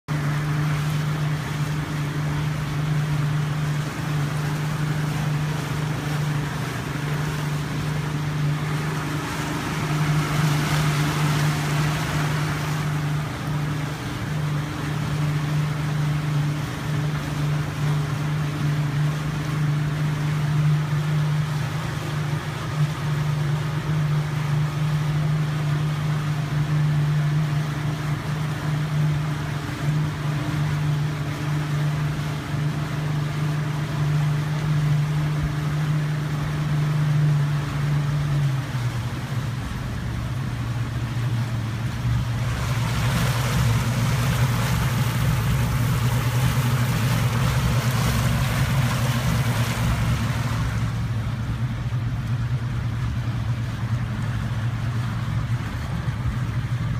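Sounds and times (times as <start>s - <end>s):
outboard motor drone: 0.0s - 56.9s
rushing water: 0.0s - 56.9s
wind: 0.0s - 56.9s.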